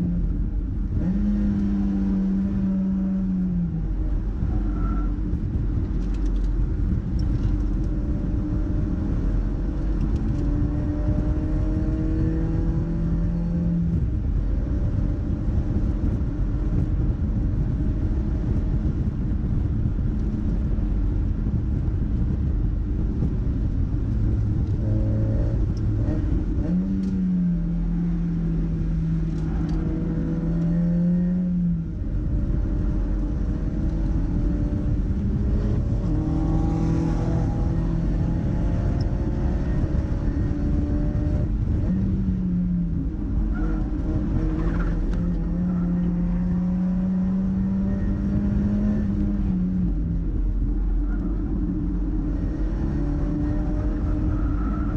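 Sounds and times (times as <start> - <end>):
car engine accelerating: 0.0 - 54.9
road and wind noise: 0.0 - 54.9.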